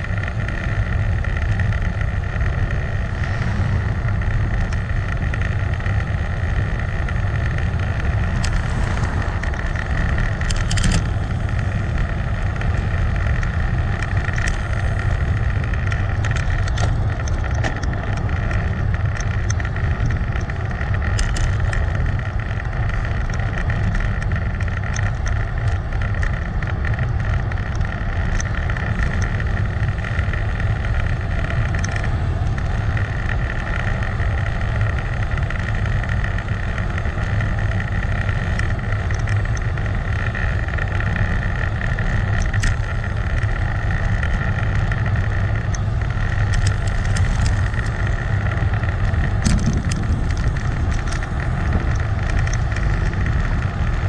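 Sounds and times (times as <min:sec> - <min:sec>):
wind rush: 0:00.0 - 0:24.8, 0:25.9 - 0:54.0
road noise: 0:00.0 - 0:54.0.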